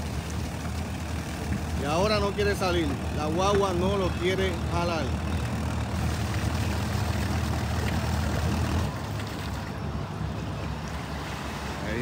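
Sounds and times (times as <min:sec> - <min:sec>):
truck engine straining under load: 0:00.0 - 0:11.8.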